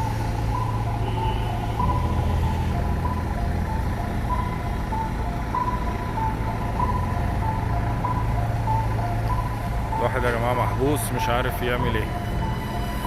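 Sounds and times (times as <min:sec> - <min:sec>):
two-note electronic beeping: 0:00.0 - 0:13.0
vehicle engine running: 0:00.0 - 0:13.0.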